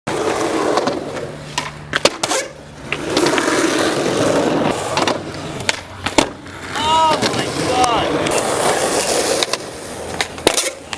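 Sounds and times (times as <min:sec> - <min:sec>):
skateboard clacks: 0:00.1 - 0:10.9
skateboard wheels rolling on concrete: 0:00.1 - 0:10.9.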